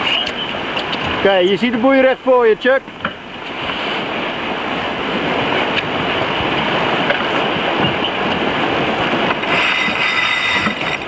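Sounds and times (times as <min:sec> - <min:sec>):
rushing water: 0:00.0 - 0:11.0
rushing wind: 0:00.0 - 0:11.0
wind buffeting microphone: 0:00.0 - 0:11.0.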